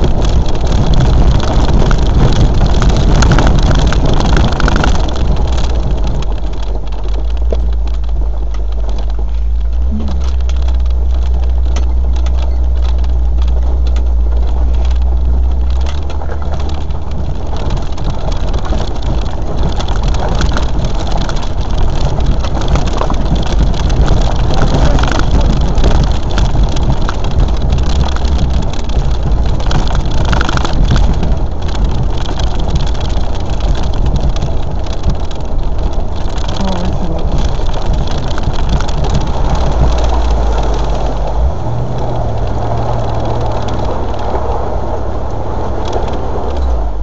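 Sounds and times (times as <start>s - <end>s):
knocks and rattles: 0.0s - 47.0s
low engine rumble: 0.0s - 47.0s.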